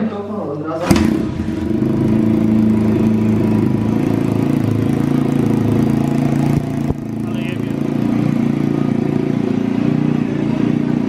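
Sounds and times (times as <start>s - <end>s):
motorbike engine running: 0.9s - 11.0s.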